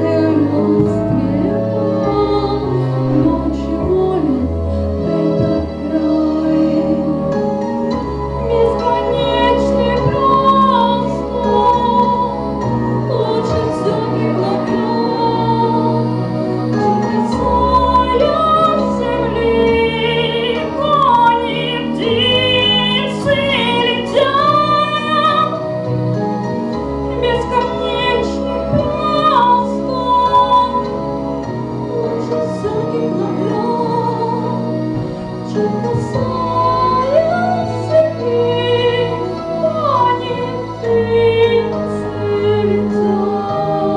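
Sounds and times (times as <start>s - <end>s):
woman singing into a microphone: 0.0s - 7.4s, 8.4s - 25.7s, 27.1s - 31.0s, 35.5s - 43.9s
instrumental accompaniment: 0.0s - 43.9s.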